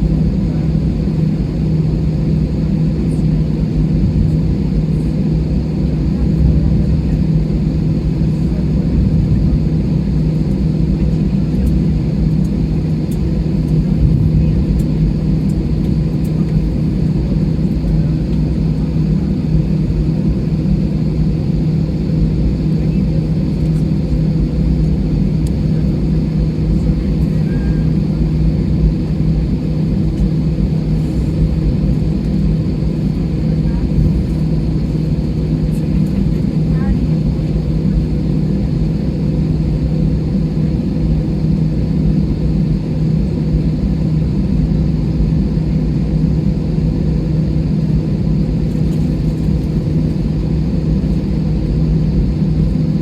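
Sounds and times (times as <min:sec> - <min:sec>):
airliner engines idling: 0:00.0 - 0:53.0.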